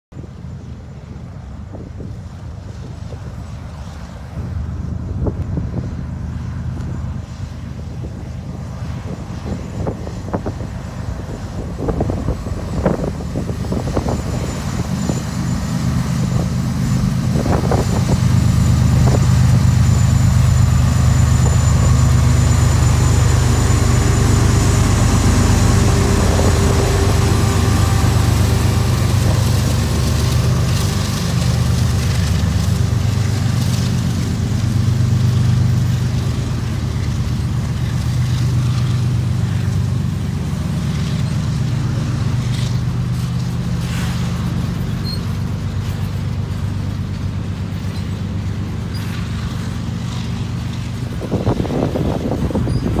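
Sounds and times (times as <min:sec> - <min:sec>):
freight cars rumbling on rails: 0:00.1 - 0:53.0
locomotive engine running: 0:00.2 - 0:53.0.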